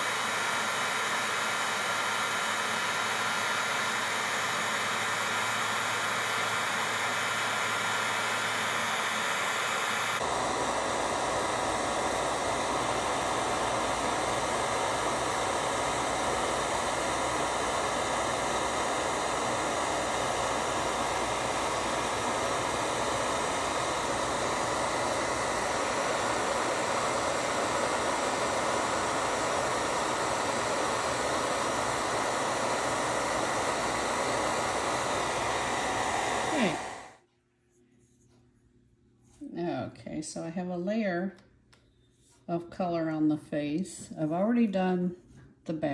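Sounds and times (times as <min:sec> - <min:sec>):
hot-air tool blowing: 0:00.0 - 0:37.2.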